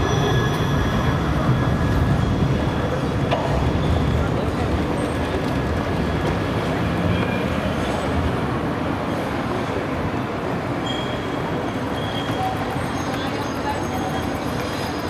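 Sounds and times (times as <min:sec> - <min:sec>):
tram wheels rumbling: 0:00.0 - 0:15.0.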